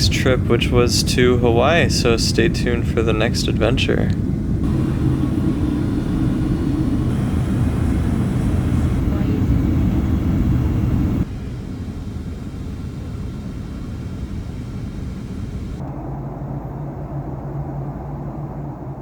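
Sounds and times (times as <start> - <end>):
aircraft rumble: 0.0 - 19.0
steady low hum: 0.0 - 19.0.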